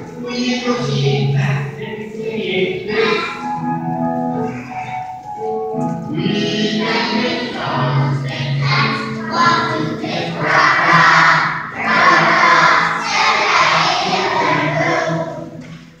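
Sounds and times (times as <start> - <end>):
children's choir singing: 0.0 - 3.6, 4.3 - 5.1, 6.0 - 15.9.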